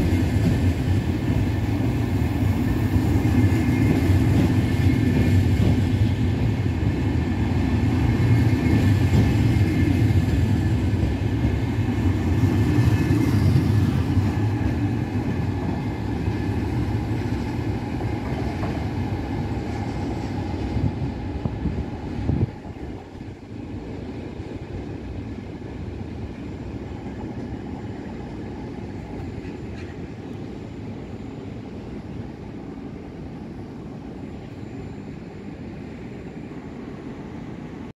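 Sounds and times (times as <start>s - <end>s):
distant trains rumbling: 0.0s - 37.9s
train wheels rumbling on rails: 0.0s - 37.9s.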